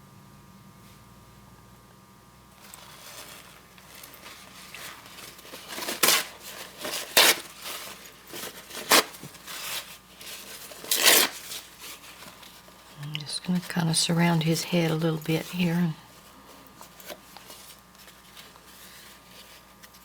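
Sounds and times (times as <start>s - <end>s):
scratchy rustles: 2.6s - 20.0s.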